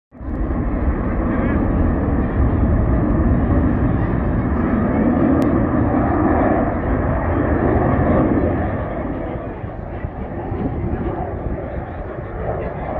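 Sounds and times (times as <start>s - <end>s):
jet passing overhead: 0.2s - 12.9s.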